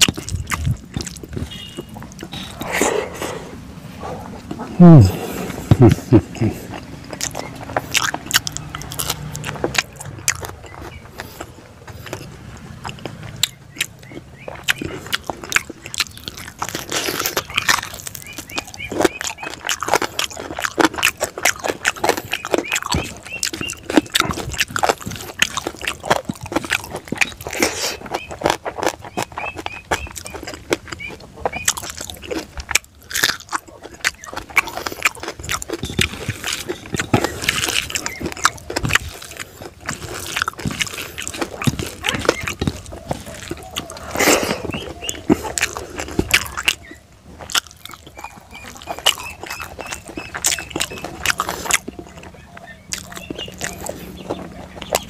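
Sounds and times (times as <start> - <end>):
wet mouth clicks and smacks: 0.0 - 3.3, 5.7 - 55.0
man chewing food: 0.0 - 55.0.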